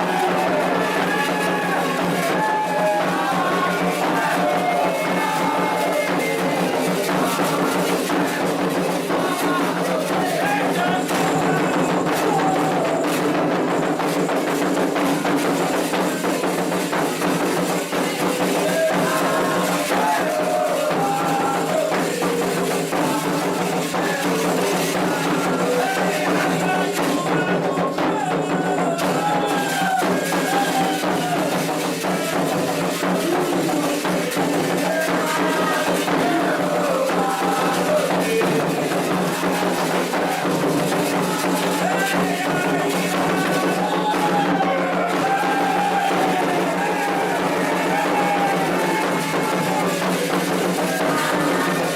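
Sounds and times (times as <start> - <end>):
hand drums and percussion: 0.0 - 51.9
voices singing a chant: 0.0 - 51.9.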